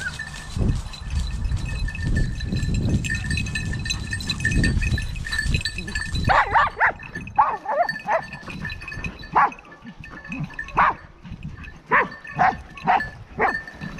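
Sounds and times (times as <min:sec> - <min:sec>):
dogs barking and yelping: 0:00.0 - 0:01.1, 0:03.2 - 0:13.9.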